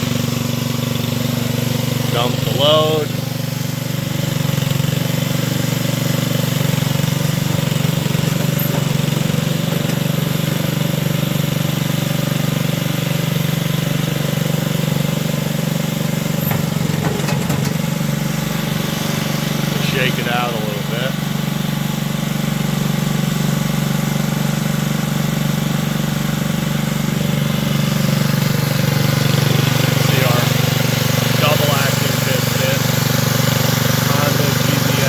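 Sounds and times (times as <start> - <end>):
small engine running steadily: 0.0 - 35.0.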